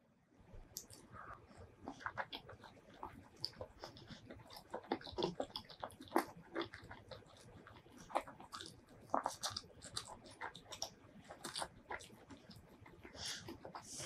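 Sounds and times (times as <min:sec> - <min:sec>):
wet chewing: 0:00.7 - 0:14.0.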